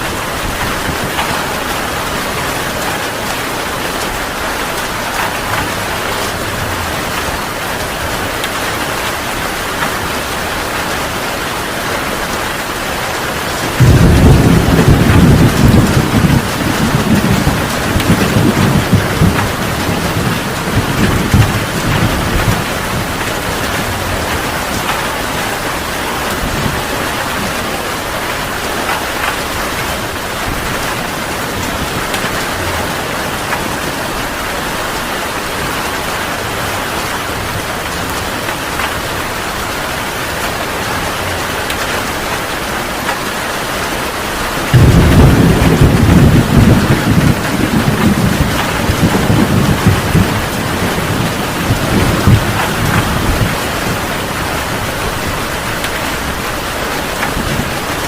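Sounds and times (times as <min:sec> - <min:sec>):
thunderclap and rumbling thunder: 0:00.0 - 0:10.1, 0:13.4 - 0:39.3, 0:44.6 - 0:58.0
heavy rain falling: 0:00.0 - 0:58.0.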